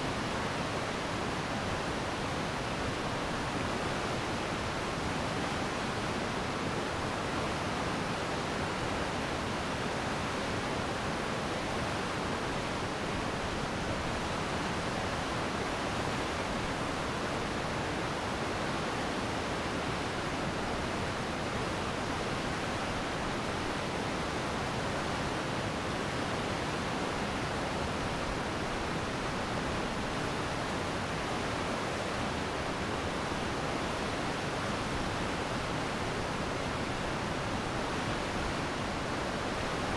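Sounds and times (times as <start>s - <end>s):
stream rushing over rocks: 0.1s - 39.9s.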